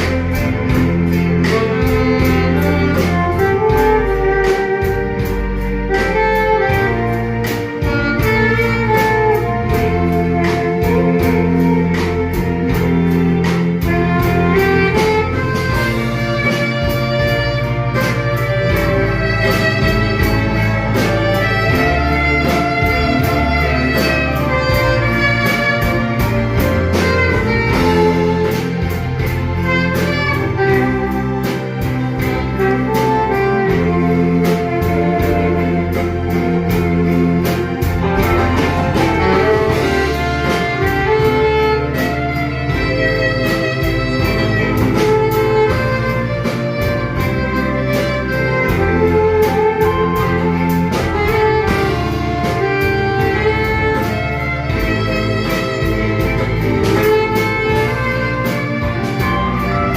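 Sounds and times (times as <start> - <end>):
live band playing slow ballad: 0.0 - 59.9
saxophone melody: 0.0 - 59.9
steady drum beat: 0.0 - 59.9.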